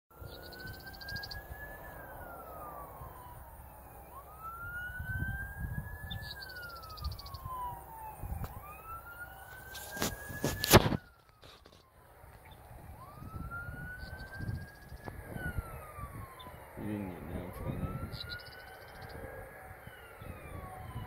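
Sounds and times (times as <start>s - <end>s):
siren wailing: 0.1s - 21.0s.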